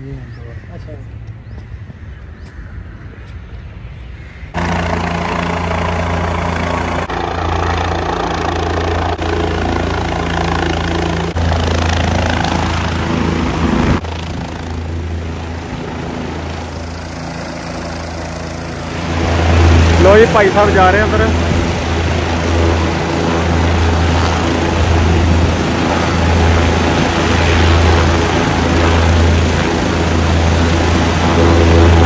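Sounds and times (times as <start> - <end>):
helicopter rotor and engine: 4.5 - 32.0.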